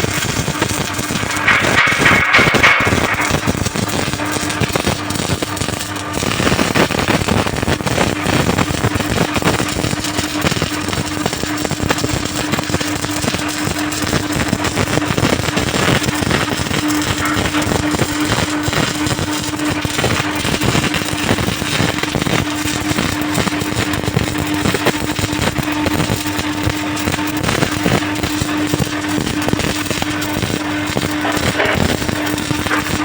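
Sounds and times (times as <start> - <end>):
steady hum: 0.0 - 9.4, 15.8 - 33.0
welding arc crackling: 0.0 - 33.0.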